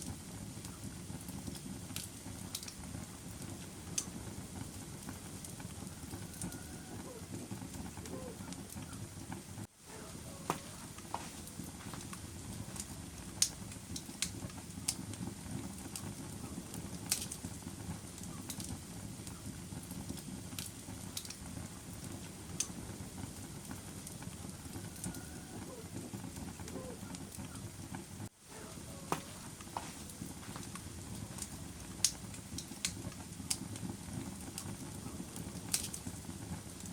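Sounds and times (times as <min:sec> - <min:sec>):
fire crackling and popping: 0:00.0 - 0:36.9
low rumble of flames: 0:00.0 - 0:36.9.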